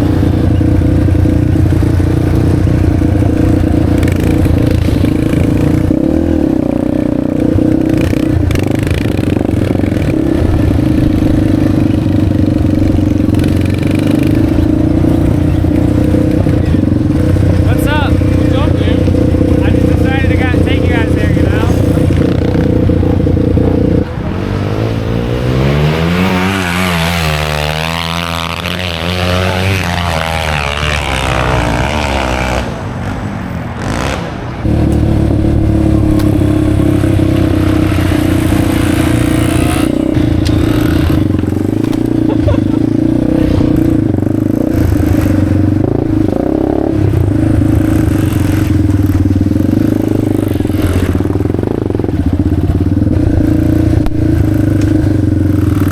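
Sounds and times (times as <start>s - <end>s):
motorcycle engine running: 0.0s - 32.6s, 33.8s - 55.9s.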